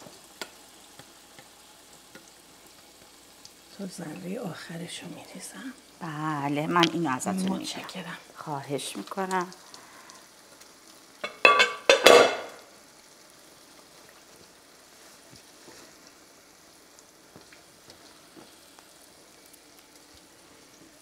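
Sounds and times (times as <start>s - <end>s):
batter sizzling in oil: 0.0s - 21.0s.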